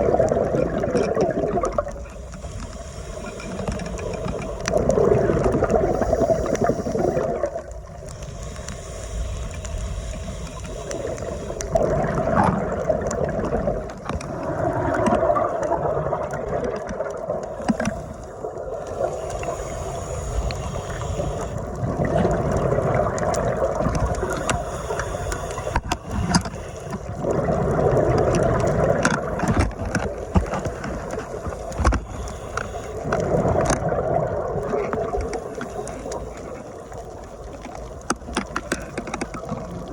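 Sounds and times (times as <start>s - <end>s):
diver's bubbles gurgling: 0.0s - 8.2s, 10.3s - 19.8s, 20.4s - 39.9s
muffled rush of water: 0.0s - 39.9s.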